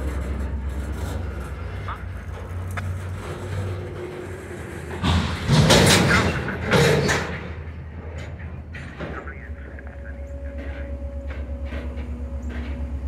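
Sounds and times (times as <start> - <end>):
diesel locomotive droning: 0.0 - 13.0
freight cars banging and clattering: 0.0 - 13.0.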